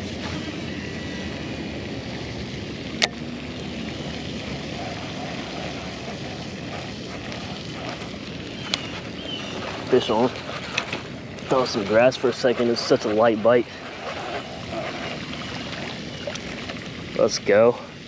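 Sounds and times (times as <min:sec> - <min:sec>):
wind buffeting microphone: 0:00.8 - 0:17.5.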